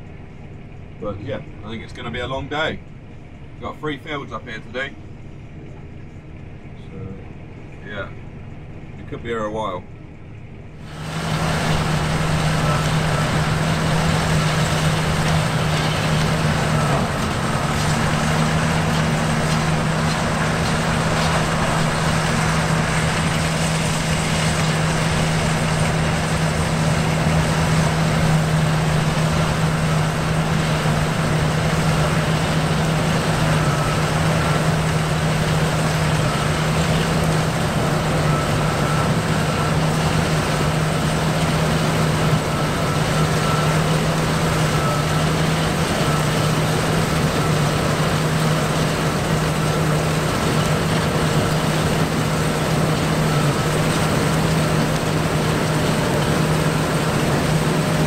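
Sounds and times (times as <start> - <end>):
combine harvester engine hum: 0.0 - 58.0
threshing machinery rush: 10.8 - 58.0.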